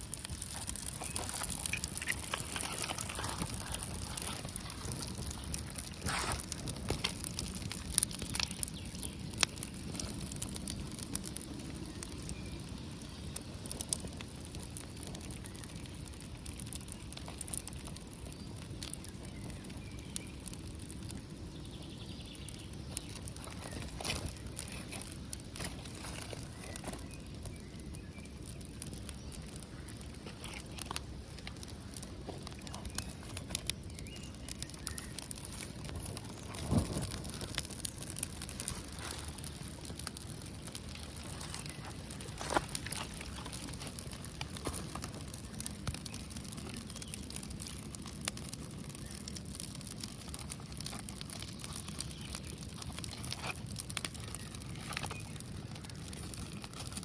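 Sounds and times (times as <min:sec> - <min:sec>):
small fire crackling and popping: 0:00.0 - 0:57.0.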